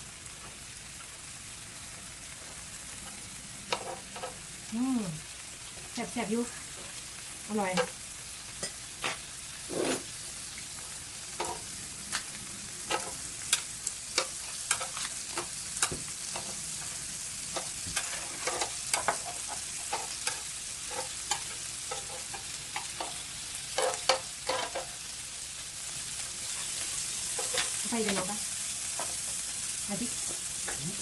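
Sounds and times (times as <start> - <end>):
meat sizzling on a grill: 0.0 - 31.0.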